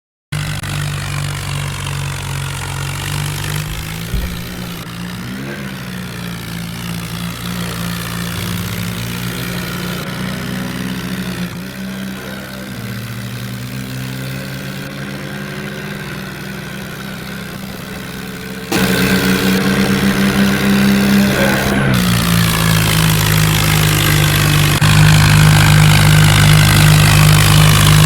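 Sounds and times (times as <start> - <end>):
tractor diesel engine running: 0.4 - 28.0.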